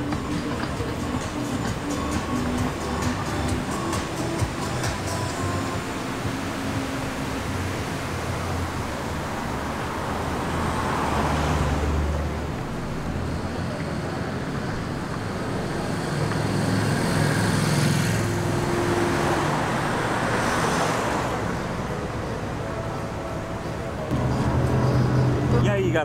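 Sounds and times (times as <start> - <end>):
car engine passing: 0.0 - 26.0.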